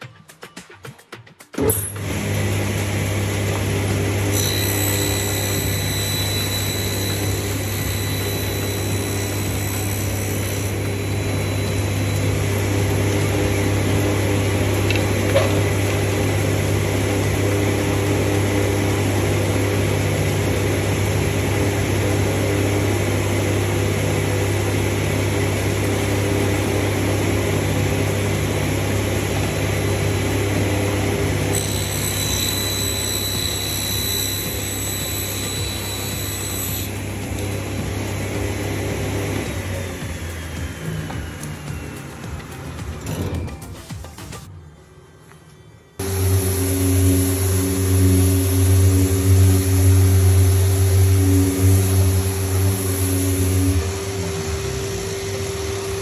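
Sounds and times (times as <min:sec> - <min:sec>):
power tool motor hum: 0:01.6 - 0:43.4, 0:46.0 - 0:56.0.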